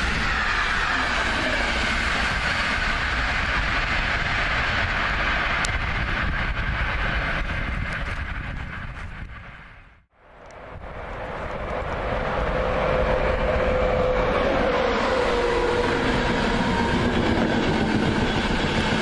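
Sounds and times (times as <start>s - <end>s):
passenger train passing at speed: 0.0s - 19.0s
wheels rumbling on rails: 0.0s - 19.0s.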